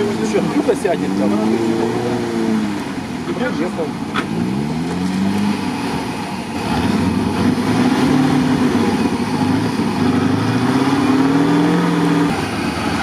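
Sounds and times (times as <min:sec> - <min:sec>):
vehicle engine revving: 0:00.0 - 0:13.0.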